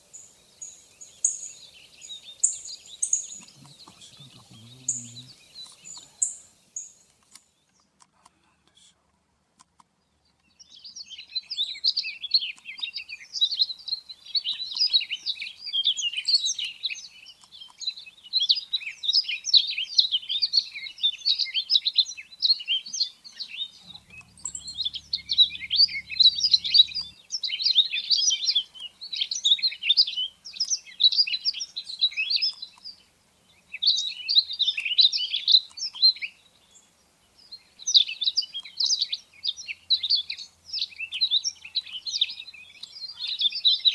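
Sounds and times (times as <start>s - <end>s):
bird twittering song: 0.0s - 7.9s, 10.0s - 43.9s.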